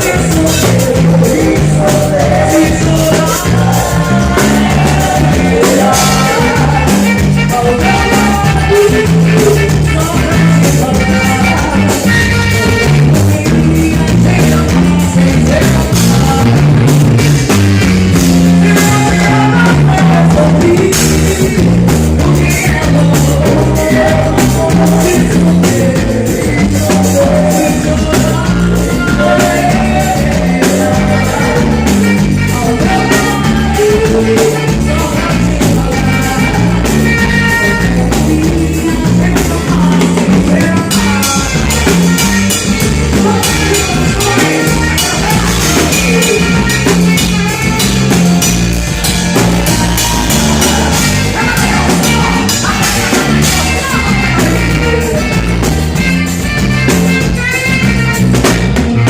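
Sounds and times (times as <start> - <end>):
drum kit: 0.0 - 59.0
guitar: 0.0 - 59.0
person singing: 0.0 - 59.0
stepping bass line: 0.0 - 59.0.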